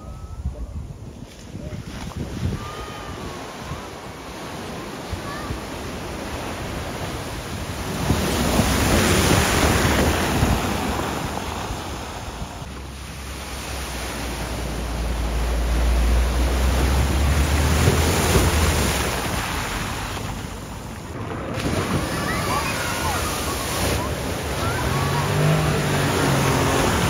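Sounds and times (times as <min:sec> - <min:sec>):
cars splashing through water: 0:01.8 - 0:27.0.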